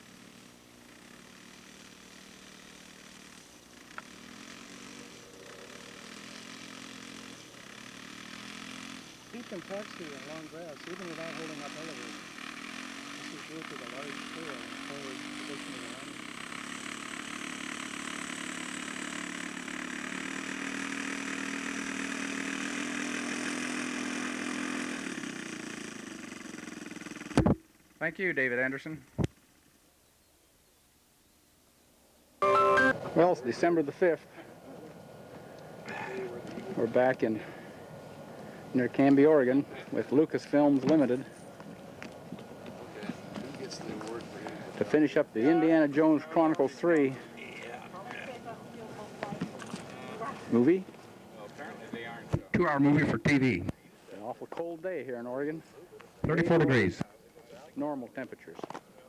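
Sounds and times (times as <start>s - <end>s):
model airplane engine running: 0.0s - 28.0s, 32.4s - 54.3s.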